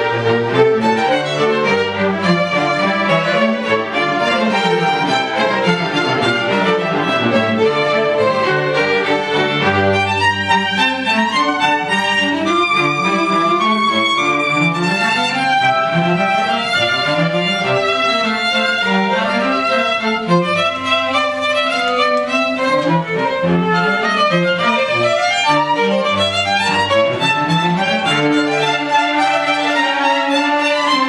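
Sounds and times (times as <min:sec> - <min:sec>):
solo violins: 0:00.0 - 0:31.0
string orchestra playing: 0:00.0 - 0:31.0.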